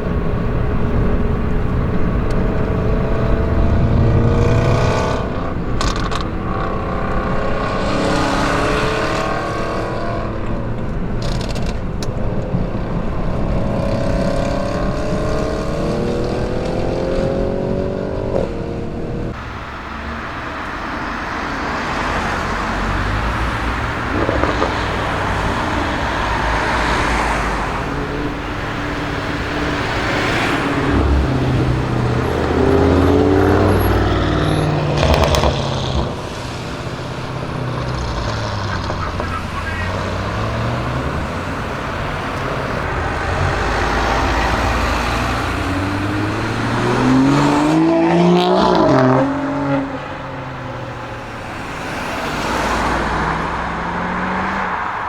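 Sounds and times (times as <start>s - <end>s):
car engine: 0.0s - 55.0s
traffic noise: 0.0s - 55.0s.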